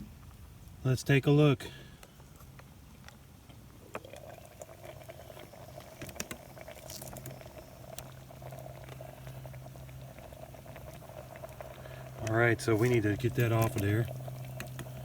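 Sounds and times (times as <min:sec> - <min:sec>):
food bubbling and sizzling in pot: 0:02.6 - 0:15.0.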